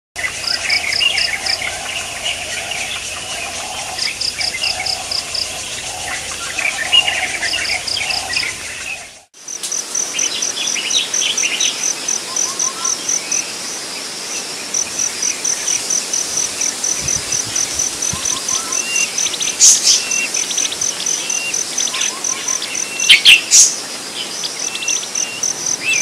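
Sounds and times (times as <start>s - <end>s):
birds chirping: 0.2s - 9.3s, 10.2s - 26.0s
insects calling in pulsed trills: 0.2s - 26.0s.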